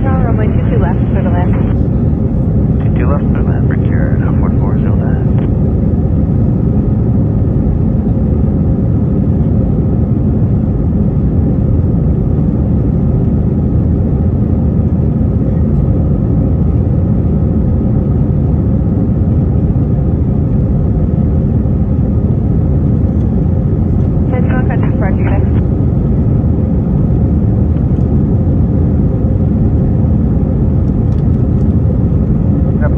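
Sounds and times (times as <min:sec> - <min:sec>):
jet engines and airflow roaring: 0:00.0 - 0:32.9.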